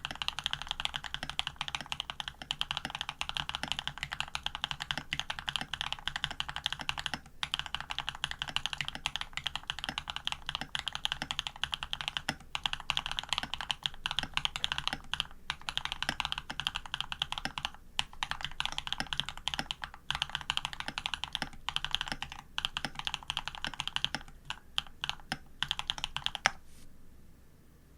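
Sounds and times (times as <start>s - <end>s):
rapid mechanical keyboard clacks: 0.0s - 26.6s.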